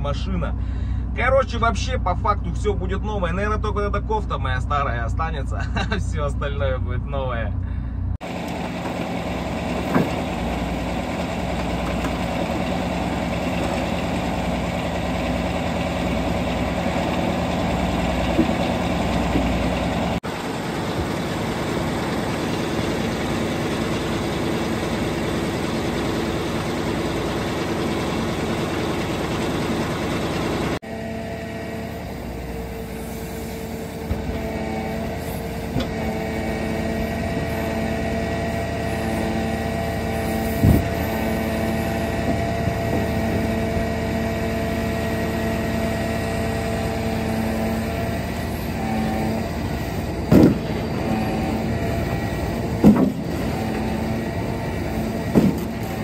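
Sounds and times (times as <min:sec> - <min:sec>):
heavy vehicle engine running: 0:00.0 - 0:56.0.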